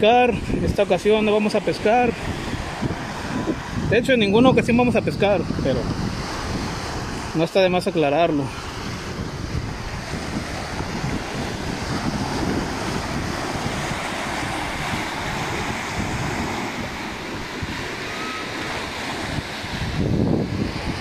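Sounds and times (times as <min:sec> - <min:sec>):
ocean surf on beach: 0:00.0 - 0:21.0
wind buffeting microphone: 0:00.0 - 0:21.0.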